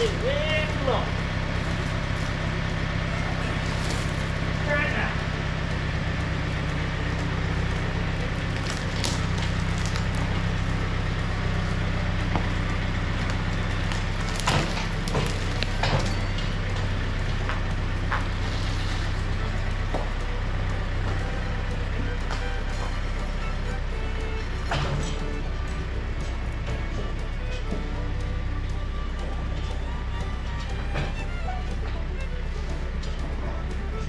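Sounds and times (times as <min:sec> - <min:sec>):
tractor engine running: 0:00.0 - 0:34.0
knocks and clatter: 0:00.9 - 0:34.0.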